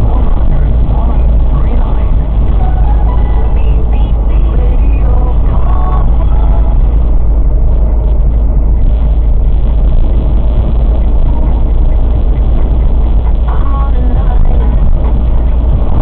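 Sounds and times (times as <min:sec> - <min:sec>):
car driving interior rumble: 0:00.0 - 0:16.0.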